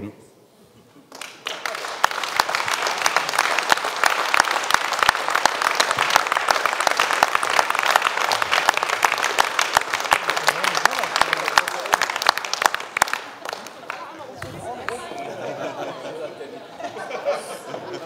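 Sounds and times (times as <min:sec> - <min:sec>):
crowd applauding: 0:01.1 - 0:18.0.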